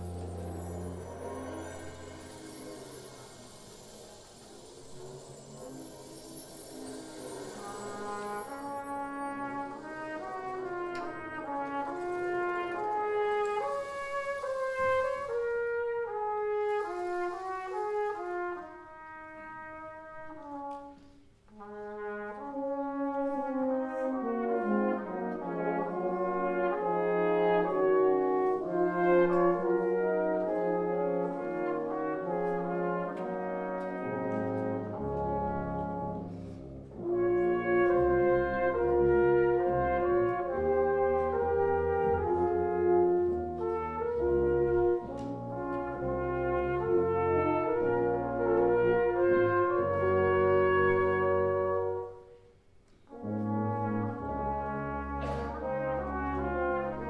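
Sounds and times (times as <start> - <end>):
wind band playing: 0.0 - 57.0.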